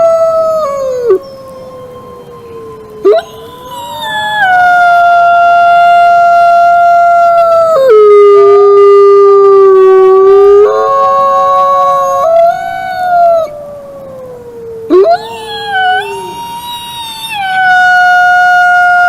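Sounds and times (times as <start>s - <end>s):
wolves howling: 0.0s - 19.0s.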